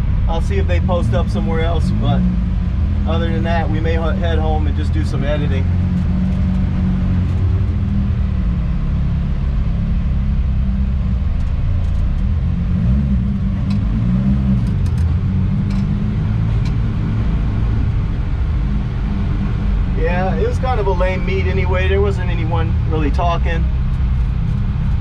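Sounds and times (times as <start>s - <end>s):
car engine: 0.0s - 25.0s
road noise: 0.0s - 25.0s.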